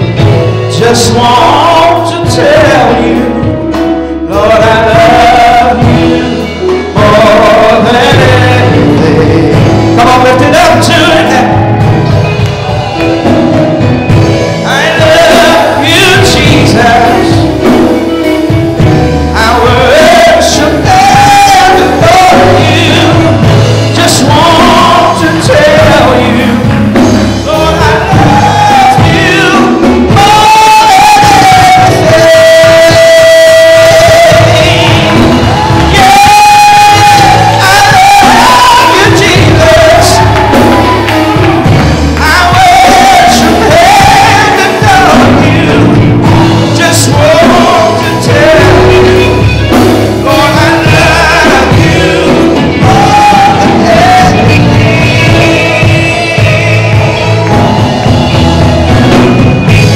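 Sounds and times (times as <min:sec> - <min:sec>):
man singing into microphone: 0:00.0 - 0:12.1, 0:14.0 - 0:18.2, 0:18.8 - 0:59.9
drums: 0:00.0 - 0:59.9
keyboard: 0:00.0 - 0:59.9.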